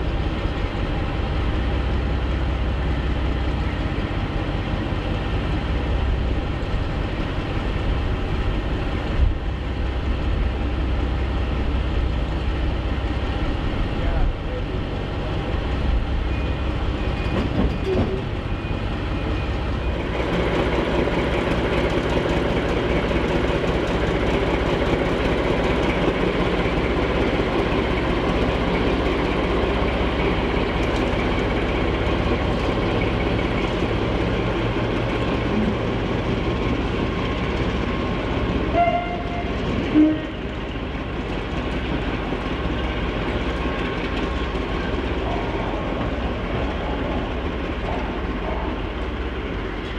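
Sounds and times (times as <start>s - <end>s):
diesel locomotive engines idling: 0.0s - 49.9s
train running: 0.0s - 49.9s.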